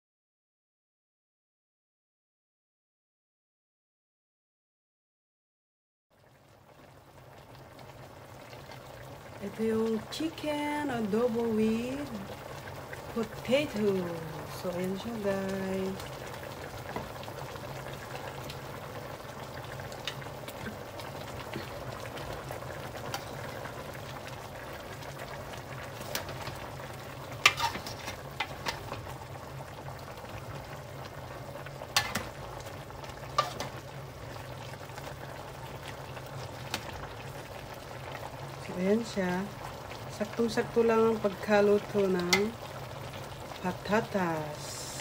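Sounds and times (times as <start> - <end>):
stew bubbling in a pot: 6.1 - 45.0.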